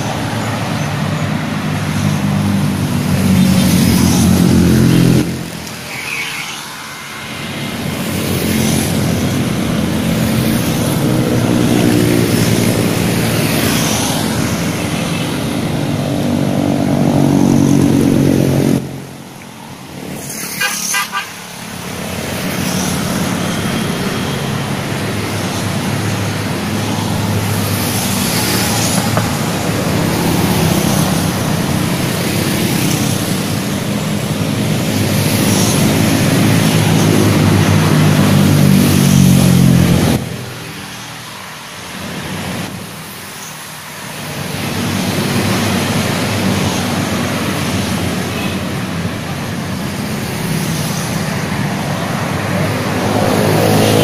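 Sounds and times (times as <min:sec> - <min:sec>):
motorcycles passing by: 0:00.0 - 0:54.0.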